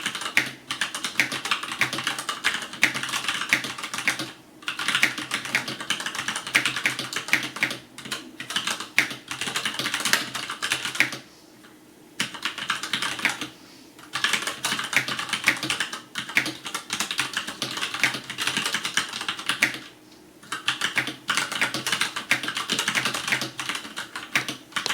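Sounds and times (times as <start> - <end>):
mechanical keyboard typing: 0.0 - 11.2, 12.2 - 13.5, 14.1 - 24.9.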